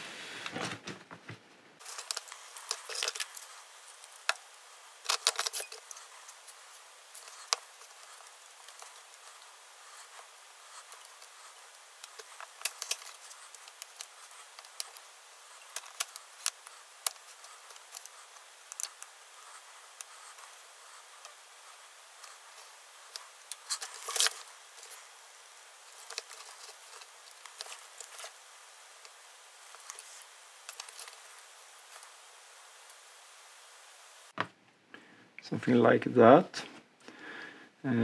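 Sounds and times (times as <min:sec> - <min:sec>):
rustling: 0:00.0 - 0:34.4.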